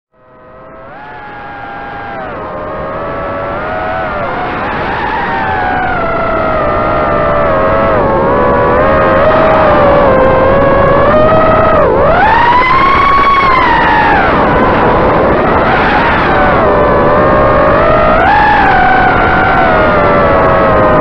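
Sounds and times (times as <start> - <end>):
drone motors and propellers whining: 0.1 - 21.0.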